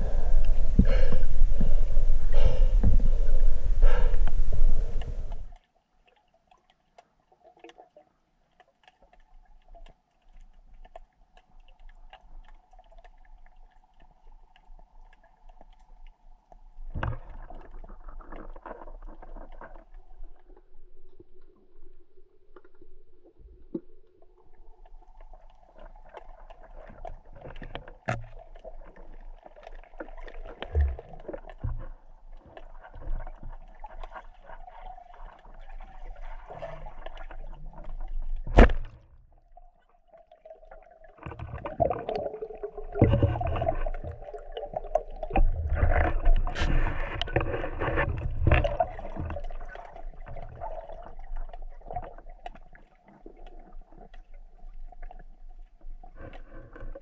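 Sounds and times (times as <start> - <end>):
muffled underwater water rushing: 0.0 - 5.6, 8.8 - 57.0.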